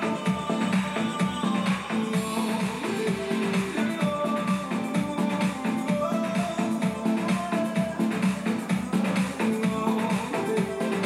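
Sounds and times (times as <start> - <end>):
music with steady beat and guitar: 0.0 - 11.0.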